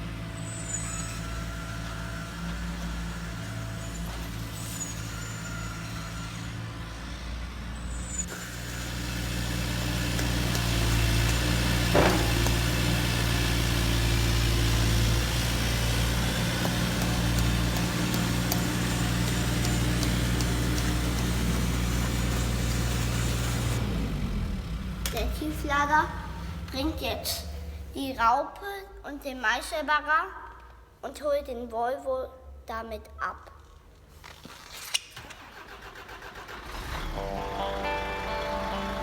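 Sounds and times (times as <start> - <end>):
model truck engine drone: 0.0 - 27.9, 35.2 - 39.0.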